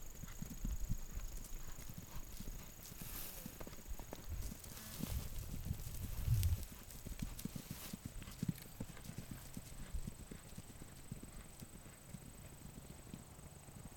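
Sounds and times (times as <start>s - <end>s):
horse hooves cantering on grass: 0.0s - 13.9s.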